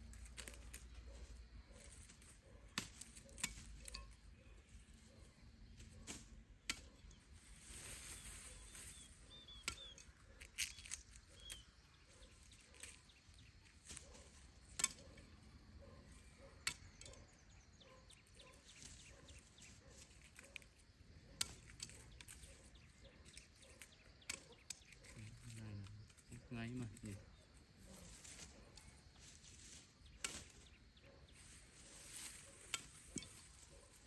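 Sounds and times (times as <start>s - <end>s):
faint bird chirps: 0.4s - 34.0s.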